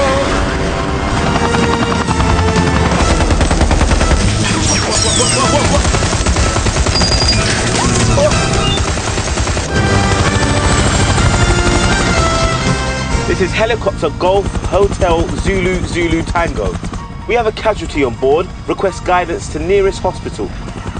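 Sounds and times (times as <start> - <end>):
film score music: 0.0 - 20.9
helicopter rotor chopping: 0.0 - 20.9.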